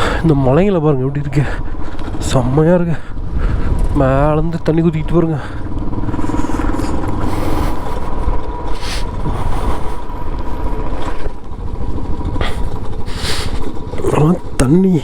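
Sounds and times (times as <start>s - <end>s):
motorcycle engine: 0.0s - 15.0s
wind and road rumble: 0.0s - 15.0s.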